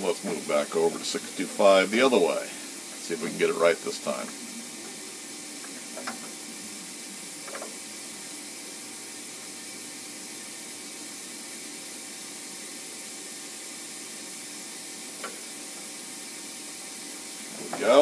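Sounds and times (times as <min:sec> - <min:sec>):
air-blast nozzle hissing: 0:00.0 - 0:18.0.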